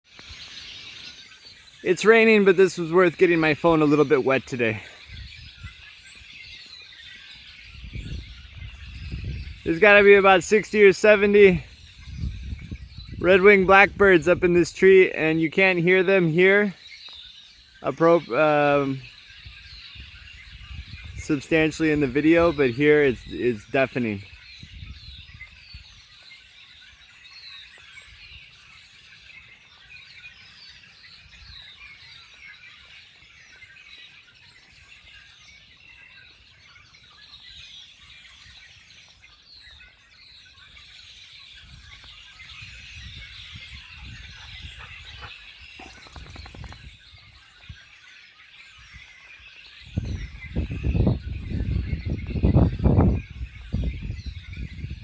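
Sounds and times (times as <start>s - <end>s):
flock of blackbirds calling: 0.1s - 55.0s.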